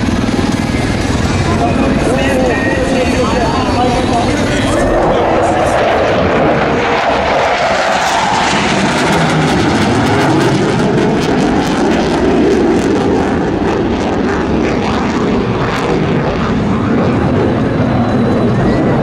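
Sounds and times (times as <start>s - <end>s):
helicopter flying low: 0.0s - 19.0s.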